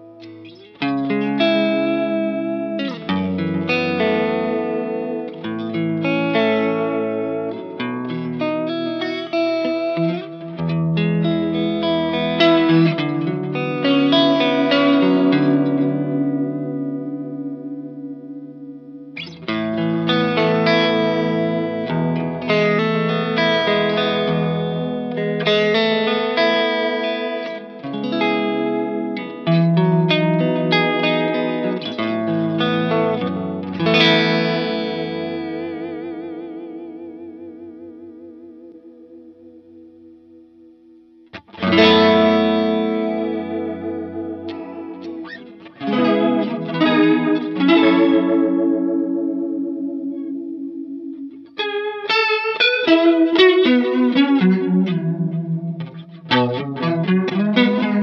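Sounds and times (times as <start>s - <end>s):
electric guitar chords with chorus: 0.0s - 58.0s.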